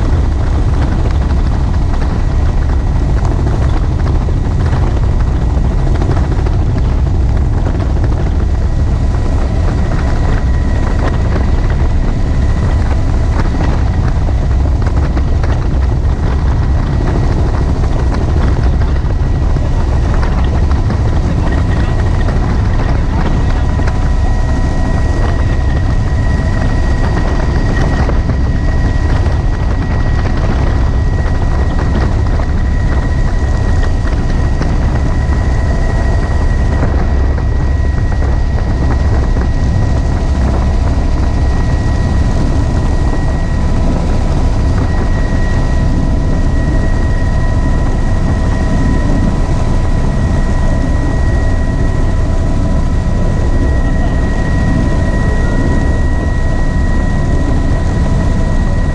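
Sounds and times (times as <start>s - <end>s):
helicopter rotor and engine rumble: 0.0s - 58.9s
high whine: 0.0s - 58.9s.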